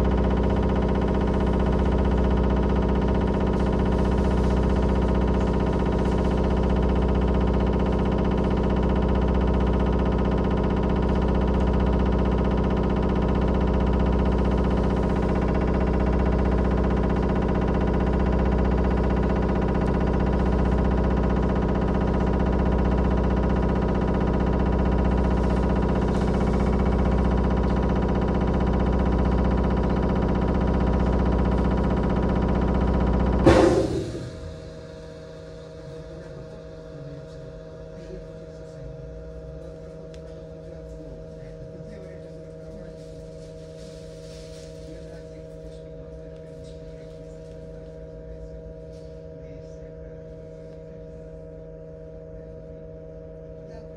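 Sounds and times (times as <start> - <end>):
trolleybus electrical hum: 0.0 - 53.9.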